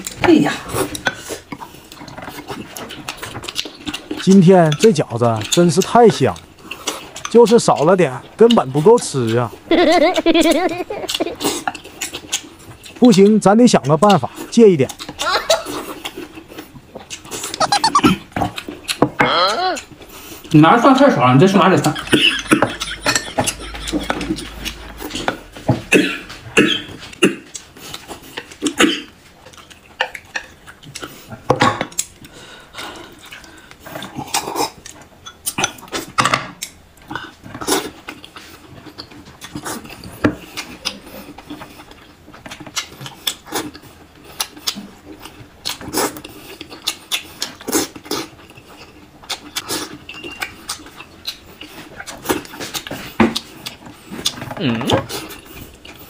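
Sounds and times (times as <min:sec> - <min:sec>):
noisy chewing: 0:00.0 - 0:56.0.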